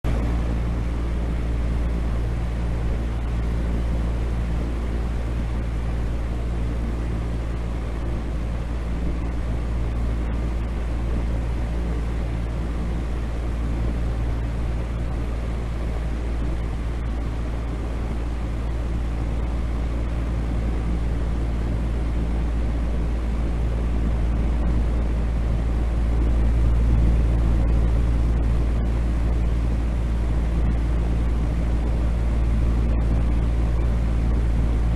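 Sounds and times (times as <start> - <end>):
deep rumbling noise with low hum: 0.0 - 34.9.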